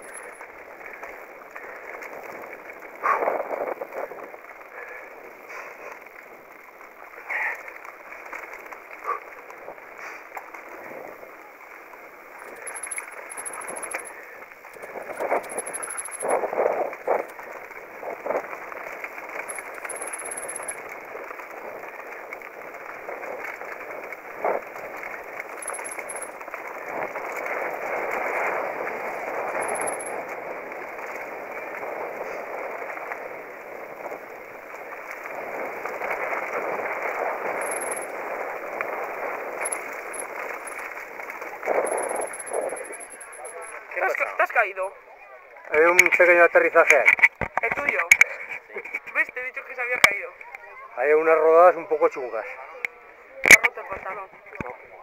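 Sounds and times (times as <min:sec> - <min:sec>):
bike rattling: 0:00.0 - 0:44.7
bike tyres rolling on dirt: 0:00.0 - 0:55.0.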